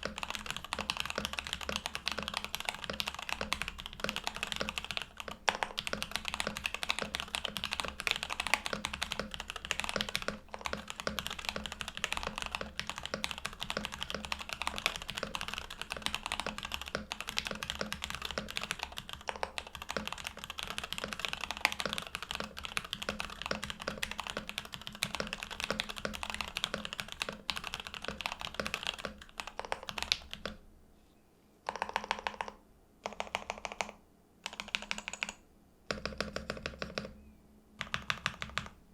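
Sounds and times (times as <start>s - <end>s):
fast mechanical keyboard typing: 0.0s - 30.6s, 31.7s - 37.2s, 37.8s - 38.8s.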